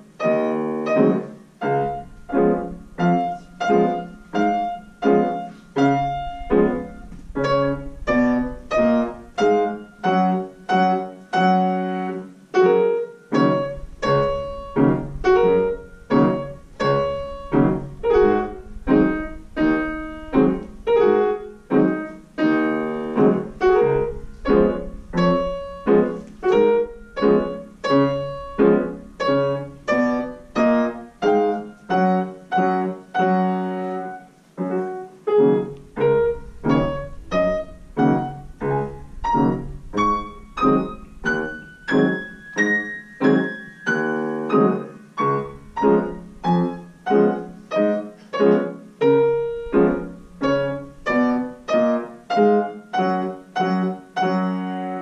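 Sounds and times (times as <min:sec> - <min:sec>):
grand piano piece: 0:00.0 - 0:55.0.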